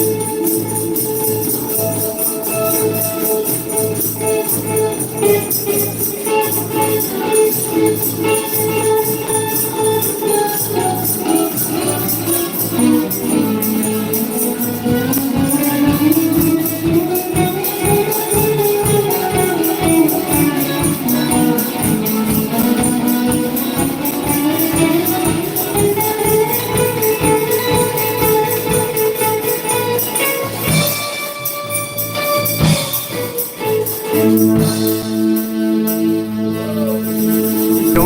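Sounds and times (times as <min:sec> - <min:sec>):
tambourine shaking: 0:00.0 - 0:34.5
worship band music: 0:00.0 - 0:38.0.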